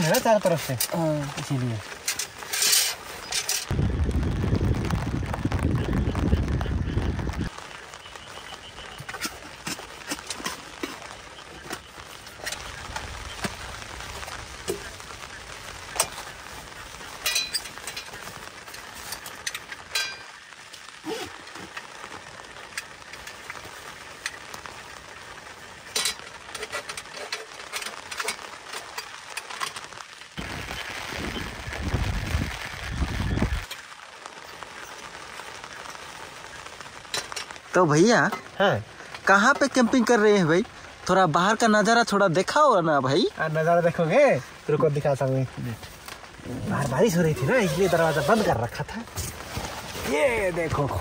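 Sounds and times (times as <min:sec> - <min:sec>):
rain pattering on tent fabric: 0:00.0 - 0:51.0
raindrops ticking: 0:00.0 - 0:51.0.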